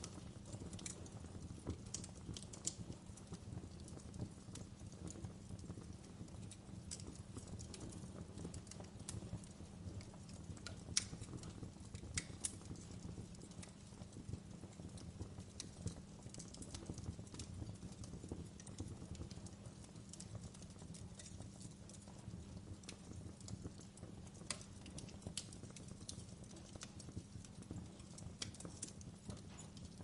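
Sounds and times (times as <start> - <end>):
low rumble of burning: 0.0 - 30.0
sharp pops of fire: 0.0 - 30.0
wood fire crackling: 0.0 - 30.0.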